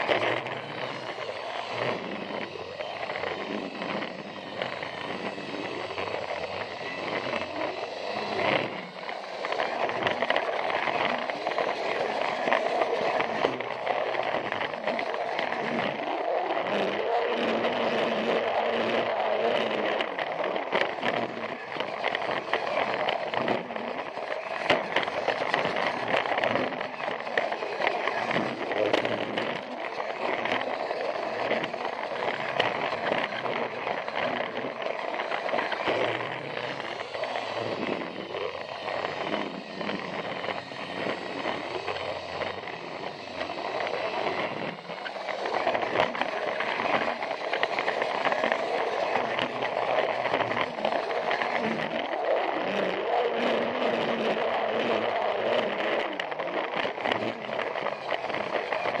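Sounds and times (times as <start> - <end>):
toy train motor whirring: 0.0 - 59.0
wheels clicking on track: 0.0 - 59.0.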